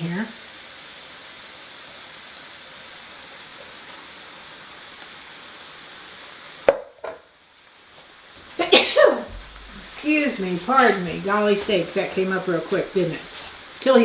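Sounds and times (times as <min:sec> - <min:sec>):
meat sizzling in a skillet: 0:00.0 - 0:14.0.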